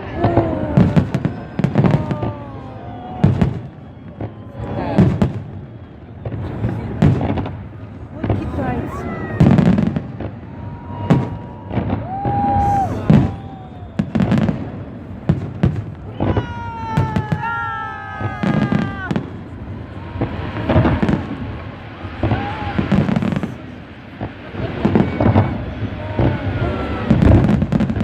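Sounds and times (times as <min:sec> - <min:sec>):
fireworks booming: 0:00.0 - 0:28.0
fireworks whistling: 0:00.0 - 0:28.0.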